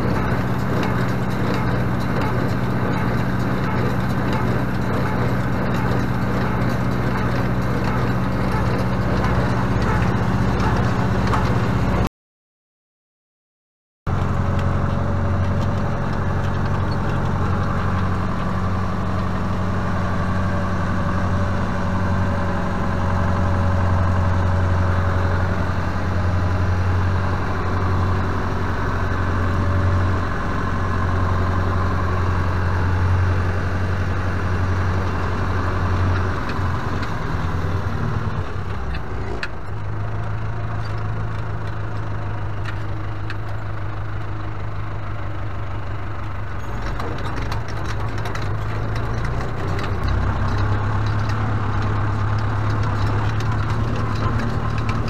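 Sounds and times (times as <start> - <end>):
tractor engine running: 0.0 - 12.1, 14.1 - 55.0.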